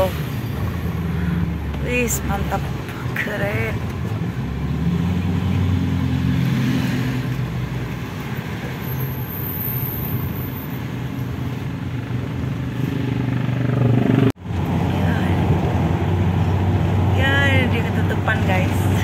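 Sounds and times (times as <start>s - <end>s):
tyre and road noise: 0.0s - 19.0s
vehicle engine drone: 0.0s - 19.0s.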